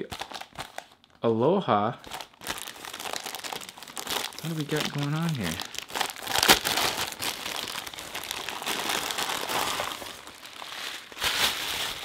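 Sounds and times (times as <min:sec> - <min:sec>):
plastic packaging crinkling: 0:00.0 - 0:01.2, 0:02.0 - 0:12.0.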